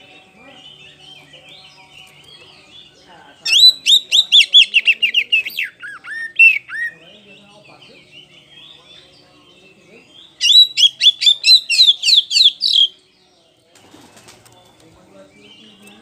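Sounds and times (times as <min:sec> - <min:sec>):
magpie-robin singing: 0:00.0 - 0:13.6, 0:14.5 - 0:16.0.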